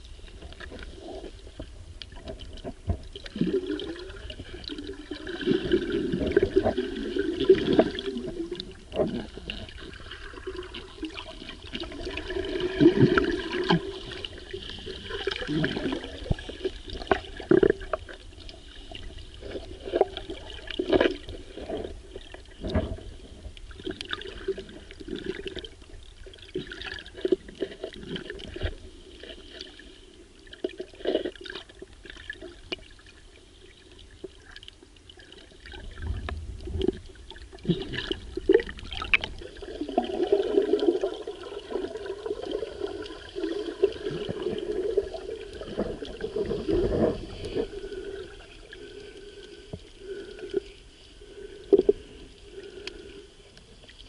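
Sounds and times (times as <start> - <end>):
muffled underwater water wash: 0.0 - 54.0
bubbling: 0.5 - 28.7, 35.2 - 50.7.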